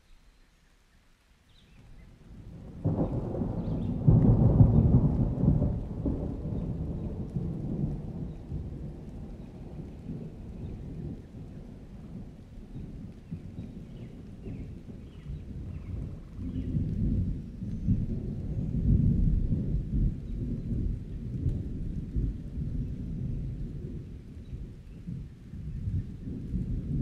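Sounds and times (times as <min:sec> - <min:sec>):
rolling thunder: 0:02.3 - 0:27.0.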